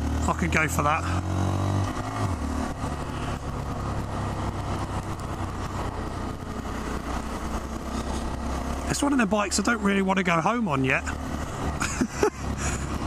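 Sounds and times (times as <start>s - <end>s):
motorcycle engine running: 0.0s - 13.0s
wind and road rush: 0.0s - 13.0s.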